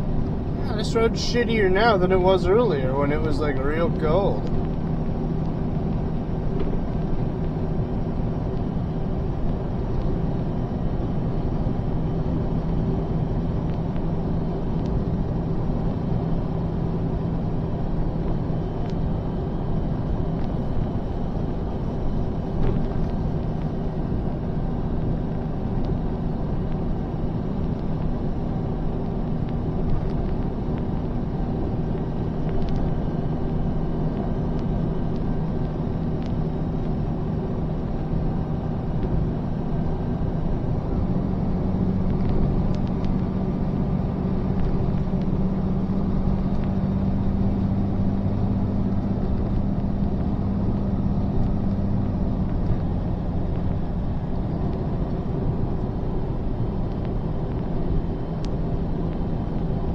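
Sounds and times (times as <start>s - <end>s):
road noise: 0.0s - 59.9s
truck engine droning: 0.0s - 59.9s.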